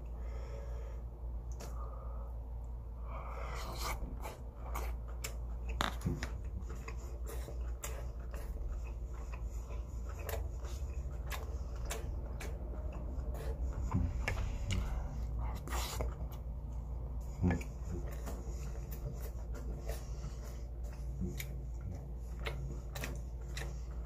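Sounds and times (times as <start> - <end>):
low hum: 0.0 - 24.0
person chewing food: 0.0 - 24.0.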